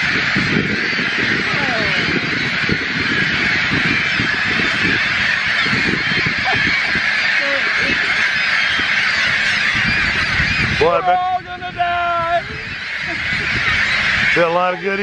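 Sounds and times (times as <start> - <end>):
gulls squawking: 0.0 - 15.0.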